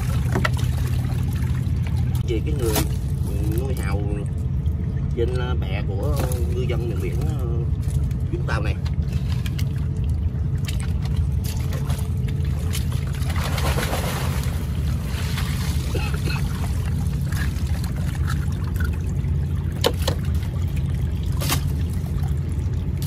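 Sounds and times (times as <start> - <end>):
seawater trickling and splashing: 0.0 - 23.0
steady low rumble: 0.0 - 23.0.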